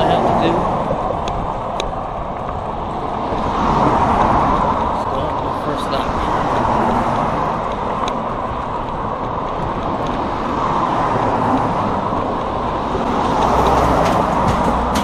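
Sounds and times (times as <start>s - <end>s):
bicycle road noise: 0.0s - 15.0s
rushing wind: 0.0s - 15.0s.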